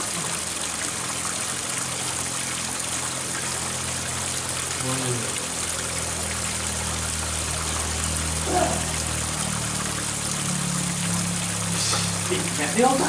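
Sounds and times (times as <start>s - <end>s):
water splashing into pond: 0.0s - 13.0s.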